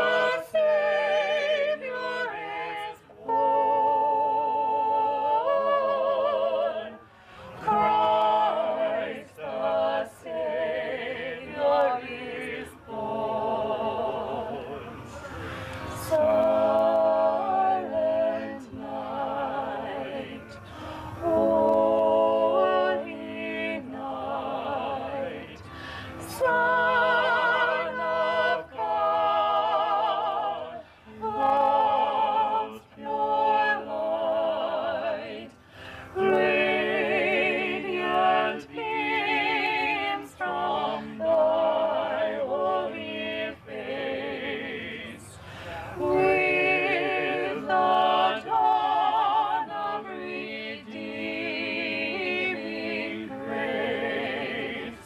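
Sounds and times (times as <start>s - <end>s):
a cappella voices singing: 0.0s - 55.0s.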